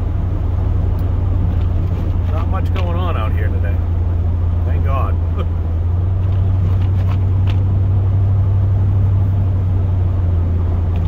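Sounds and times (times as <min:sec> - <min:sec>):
engine and road noise drone: 0:00.0 - 0:11.0.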